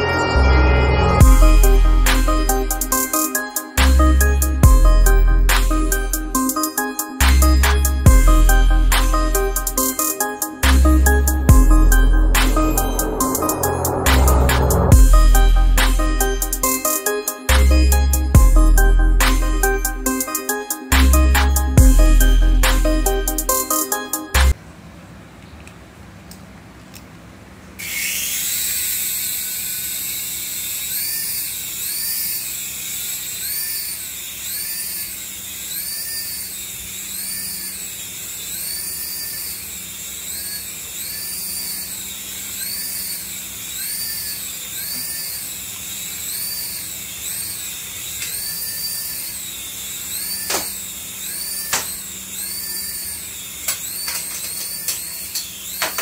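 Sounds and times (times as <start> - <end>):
toy helicopter motor whine: 1.1 - 24.5, 27.8 - 56.0.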